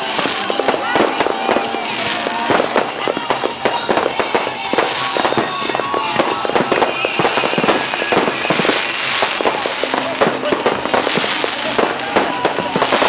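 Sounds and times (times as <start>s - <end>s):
fireworks and firecrackers bangs: 0.0s - 13.0s.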